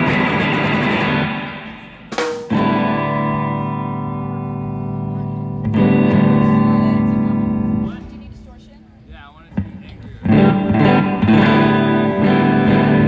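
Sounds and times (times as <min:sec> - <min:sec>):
distorted electric guitar chords: 0:00.0 - 0:08.3, 0:09.6 - 0:13.0.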